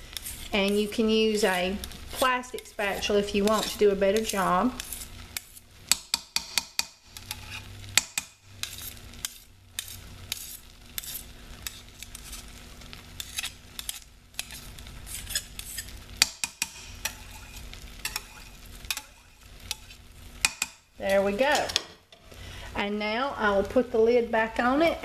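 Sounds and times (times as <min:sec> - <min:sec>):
knife scraping metal spoon: 0:00.1 - 0:05.6, 0:06.6 - 0:12.5, 0:13.2 - 0:21.8.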